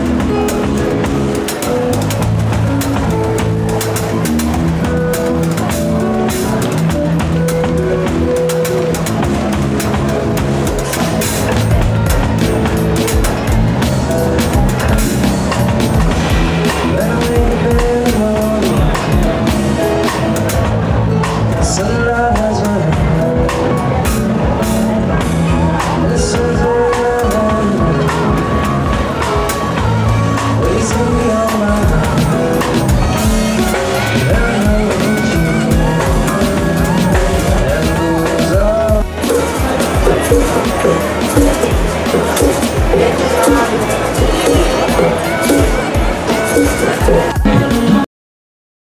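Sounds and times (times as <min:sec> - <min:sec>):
bass guitar: 0:00.0 - 0:48.1
drum kit with cymbals: 0:00.0 - 0:48.1
guitar: 0:00.0 - 0:48.1.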